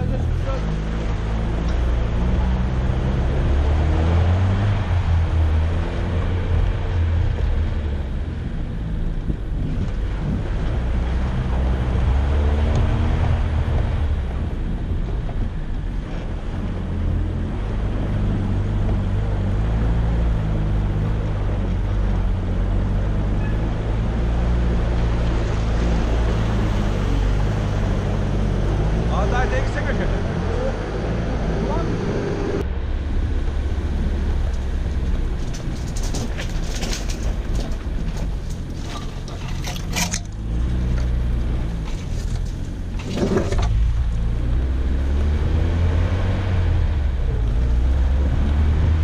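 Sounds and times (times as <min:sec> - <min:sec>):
car engine under load: 0:00.0 - 0:49.0.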